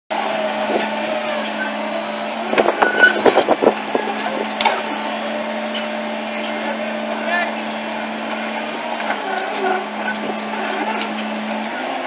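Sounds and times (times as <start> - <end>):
excavator diesel engine running: 0.1 - 12.0.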